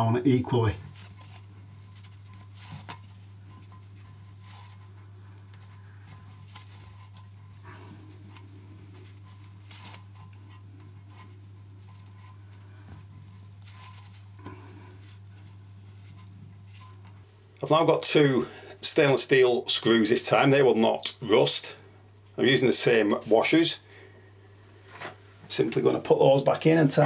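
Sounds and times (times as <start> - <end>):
steady low hum: 0.0 - 27.0
gloved hand rustling and scraping: 0.3 - 27.0.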